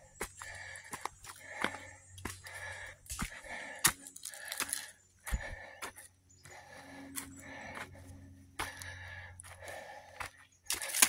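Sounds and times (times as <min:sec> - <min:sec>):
heavy breathing: 0:00.0 - 0:11.0
footsteps on dry leaves: 0:00.2 - 0:11.0.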